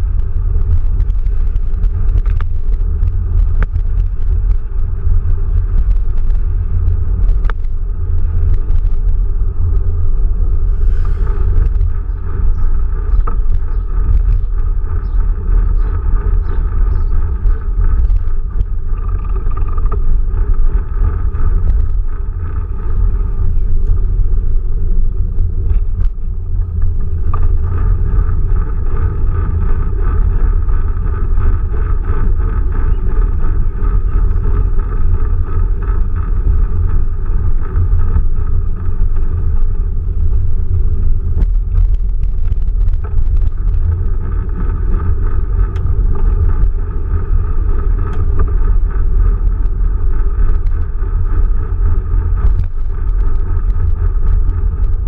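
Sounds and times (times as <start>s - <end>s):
faint drivetrain whir: 0.0s - 55.0s
tyre and road rumble: 0.0s - 55.0s.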